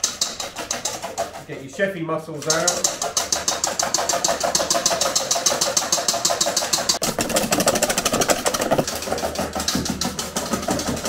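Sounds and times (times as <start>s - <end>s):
whisk clattering in metal bowl: 0.0s - 11.0s.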